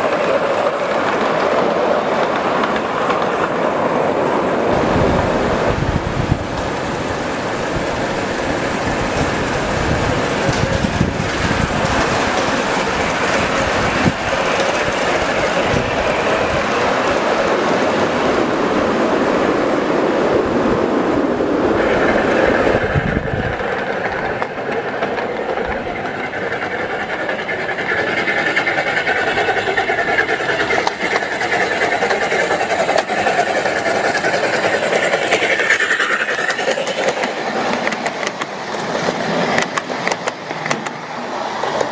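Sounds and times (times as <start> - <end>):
train cars clicking: 0.0 - 19.7, 21.6 - 41.9
steel wheels rumbling on rails: 0.0 - 41.9.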